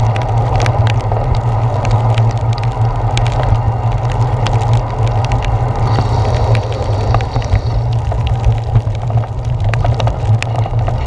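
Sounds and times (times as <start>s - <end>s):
raindrops spattering on camera: 0.0s - 11.0s
wet road hiss: 0.0s - 11.0s
wind rumble: 0.0s - 11.0s.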